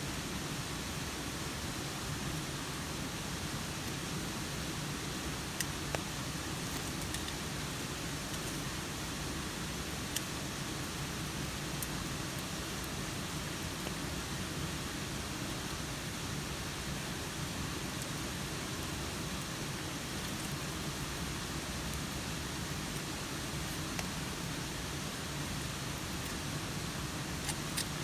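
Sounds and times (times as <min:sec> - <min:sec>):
steady rain falling: 0:00.1 - 0:28.0.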